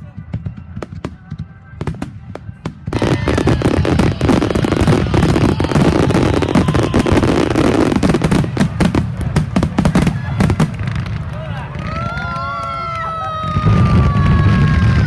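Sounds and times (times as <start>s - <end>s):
firework bangs: 0.0s - 15.0s
firework crackle: 0.0s - 15.0s.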